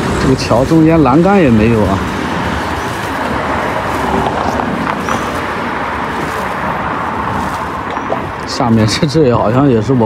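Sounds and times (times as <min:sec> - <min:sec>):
road traffic tyre noise: 0:00.0 - 0:10.0.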